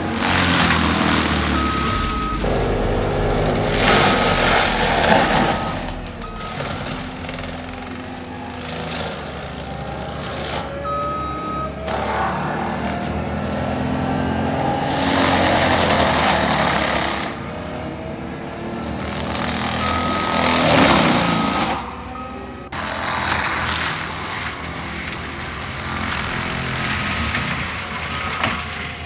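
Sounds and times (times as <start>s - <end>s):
mulcher grinding brush: 0.0s - 22.1s, 22.8s - 29.0s
diesel engine under load: 0.0s - 29.0s.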